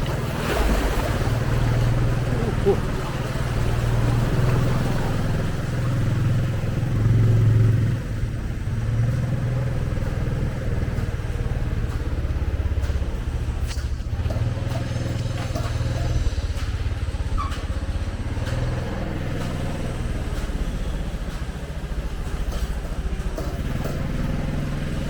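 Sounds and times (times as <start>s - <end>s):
small motorcycle engine running: 0.0s - 25.0s.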